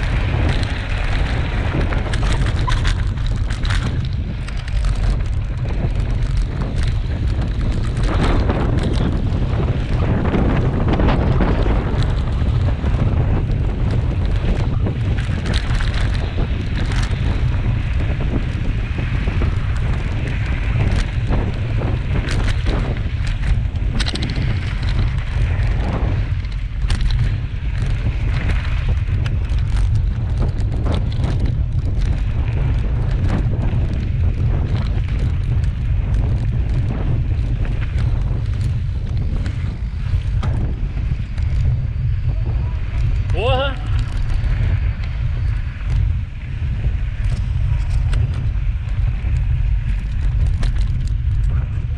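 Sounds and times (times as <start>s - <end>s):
bike clicks and rattles: 0.0s - 51.9s
wind buffeting microphone: 0.0s - 51.9s.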